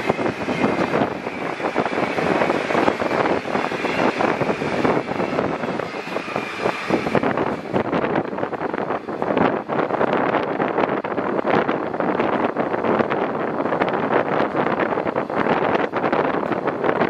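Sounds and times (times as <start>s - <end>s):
train wheels on rails: 0.0s - 17.0s
wind buffeting microphone: 0.0s - 17.0s.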